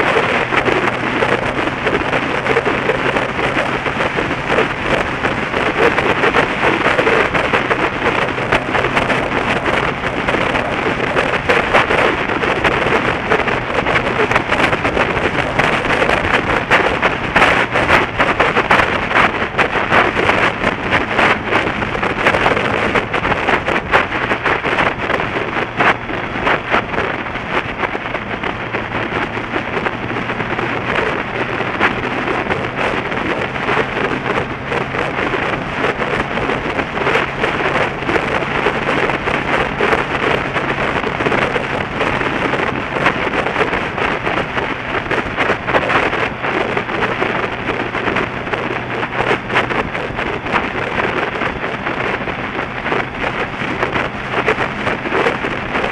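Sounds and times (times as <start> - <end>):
motorcycle engine drone: 0.0 - 55.9
wind buffeting microphone: 0.0 - 55.9.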